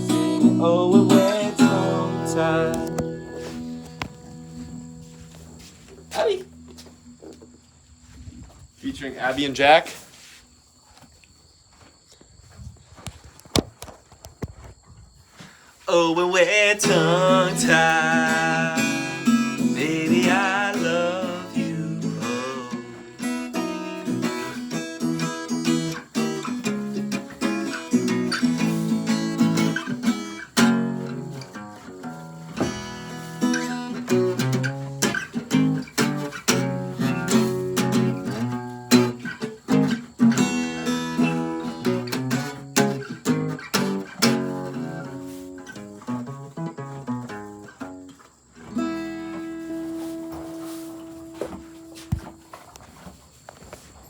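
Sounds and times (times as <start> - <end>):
acoustic guitar strummed and picked: 0.0 - 7.6, 15.9 - 52.4.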